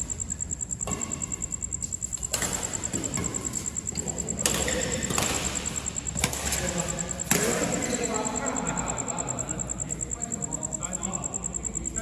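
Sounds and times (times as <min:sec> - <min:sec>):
high pulsing insect trill: 0:00.0 - 0:12.0.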